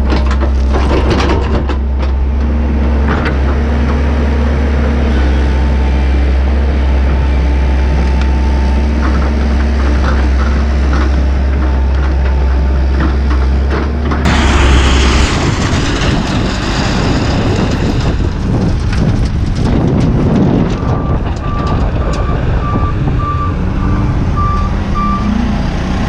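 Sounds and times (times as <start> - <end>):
diesel excavator engine droning: 0.0 - 26.0.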